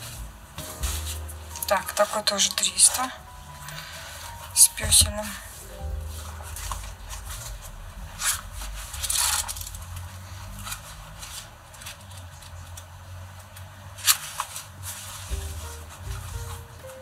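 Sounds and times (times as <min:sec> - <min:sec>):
paper pages rustling: 0:00.0 - 0:17.0.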